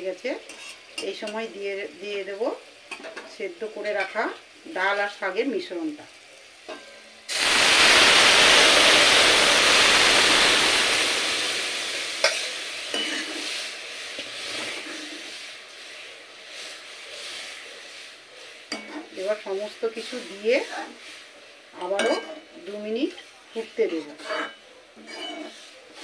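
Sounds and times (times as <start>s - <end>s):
hot oil hissing: 0.0s - 26.0s.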